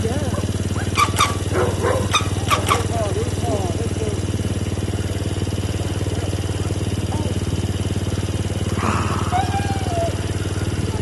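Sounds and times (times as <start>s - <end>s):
small petrol engine running: 0.0s - 11.0s.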